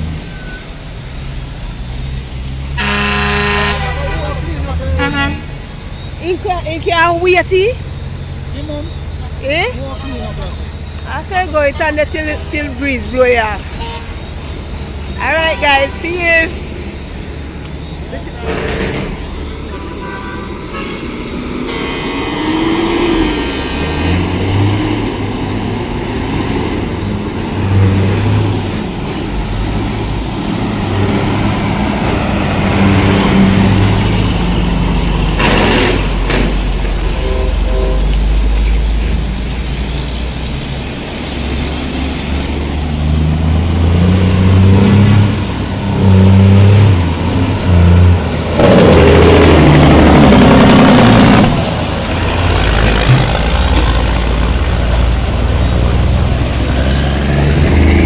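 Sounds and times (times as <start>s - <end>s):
heavy vehicle engine running: 0.0s - 58.0s
loud rushes of noise: 0.0s - 58.0s.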